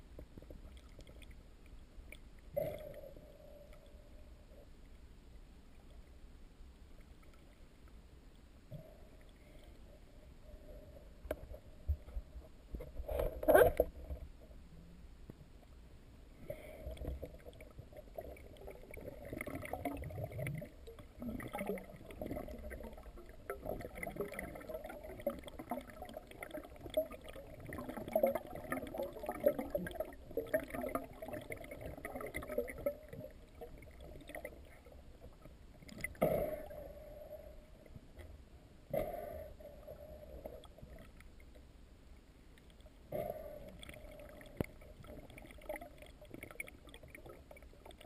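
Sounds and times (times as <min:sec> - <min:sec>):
muffled underwater water rumbling: 0:00.0 - 0:41.8.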